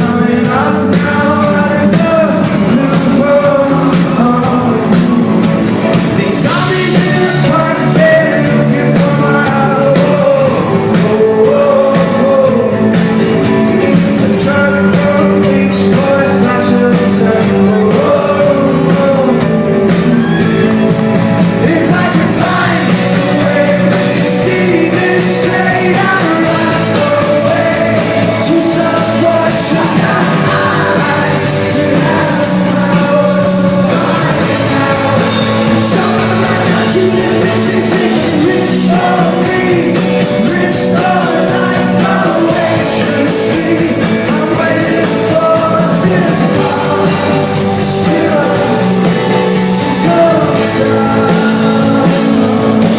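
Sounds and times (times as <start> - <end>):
lead vocal singing: 0.0 - 52.9
rock band playing live: 0.0 - 52.9
steady drum beat: 0.0 - 52.9.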